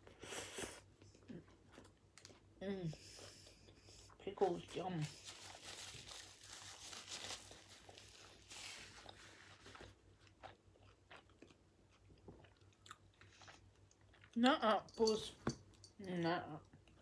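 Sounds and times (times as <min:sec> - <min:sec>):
chewing with soft crunching: 0:00.0 - 0:06.7, 0:07.3 - 0:14.4.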